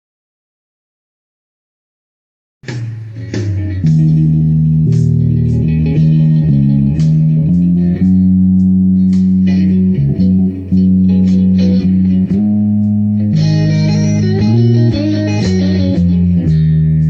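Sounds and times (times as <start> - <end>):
electric bass guitar notes: 2.6 - 17.0.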